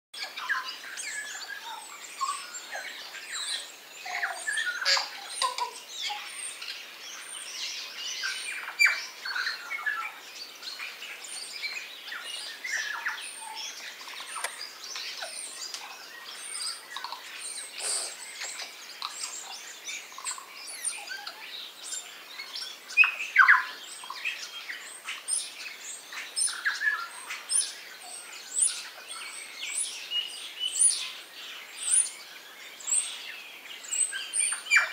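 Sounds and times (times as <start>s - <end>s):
birds chirping and whistling: 0.2s - 34.9s.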